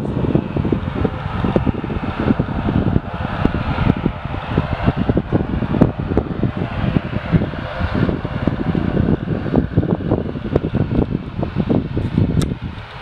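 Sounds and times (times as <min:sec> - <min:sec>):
turboprop engines humming: 0:00.0 - 0:13.0
wind rumble on microphone: 0:00.0 - 0:13.0.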